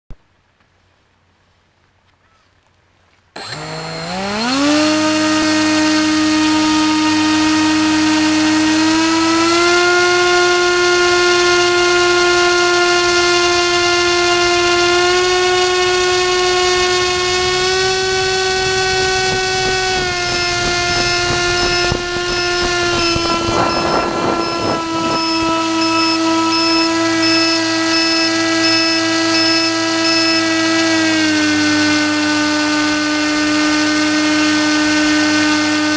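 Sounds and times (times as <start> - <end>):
motor and propeller whine: 3.4 - 35.9.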